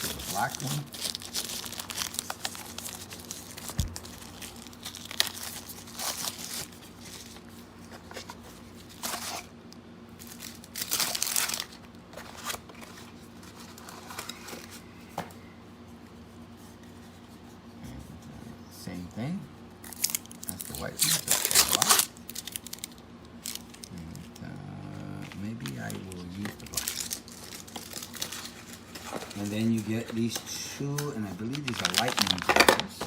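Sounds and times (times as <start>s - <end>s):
packaging crinkling: 0.0s - 14.7s, 19.8s - 24.4s, 25.1s - 33.0s.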